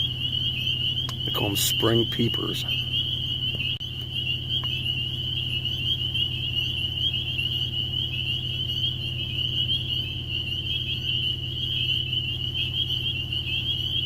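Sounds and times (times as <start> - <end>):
frogs peeping chorus: 0.0 - 14.0
steady low hum: 0.0 - 14.0.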